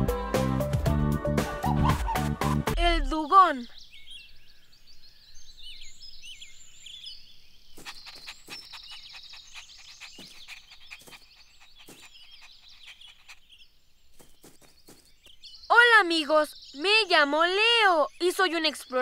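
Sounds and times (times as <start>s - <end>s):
birds chirping and trilling: 2.8s - 19.0s.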